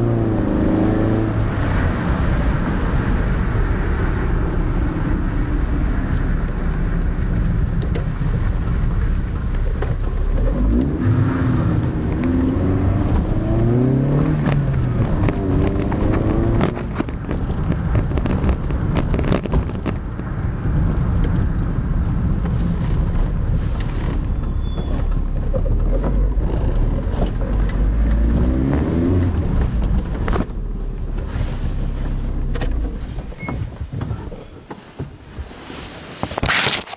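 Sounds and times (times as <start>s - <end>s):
car engine revving: 0.0s - 19.7s, 21.8s - 33.2s
exhaust crackles: 0.0s - 36.8s.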